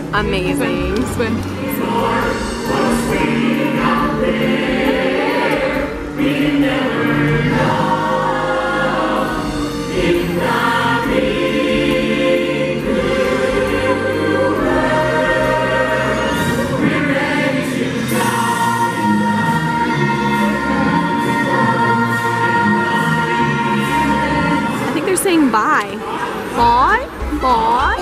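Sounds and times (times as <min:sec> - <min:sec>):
backing music over sound system: 0:00.0 - 0:28.0
ensemble singing: 0:00.0 - 0:28.0.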